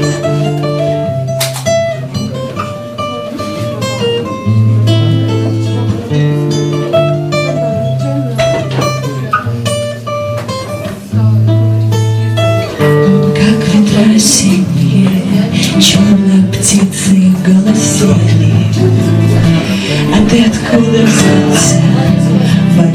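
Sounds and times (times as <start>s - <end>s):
acoustic guitar strumming: 0.0s - 22.9s.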